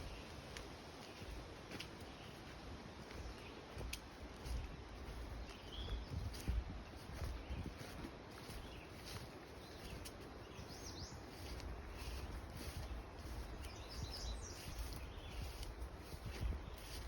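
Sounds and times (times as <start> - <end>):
low rumble of breeze: 0.0 - 17.0
songbirds chirping: 0.0 - 17.0.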